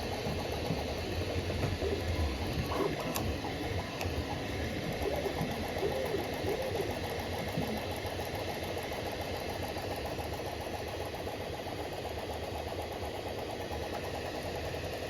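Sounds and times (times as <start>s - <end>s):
three-d printer motors whirring: 0.0s - 15.0s.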